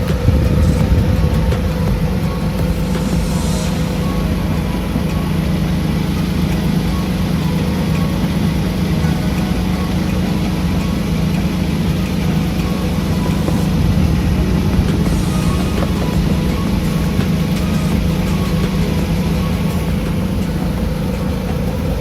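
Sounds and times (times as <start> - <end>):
car engine running steadily: 0.0 - 22.0.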